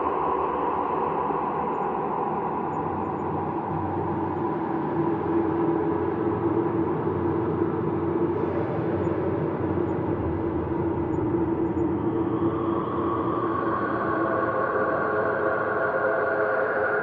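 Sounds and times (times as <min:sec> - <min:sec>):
ambient drone of sustained tones: 0:00.0 - 0:17.0.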